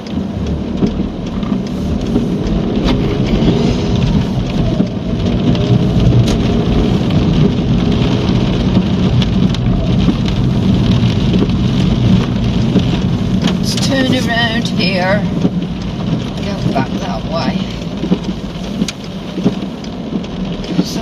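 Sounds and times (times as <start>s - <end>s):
car engine and road rumble: 0.0s - 21.0s
heavy rain hitting a car: 0.0s - 21.0s.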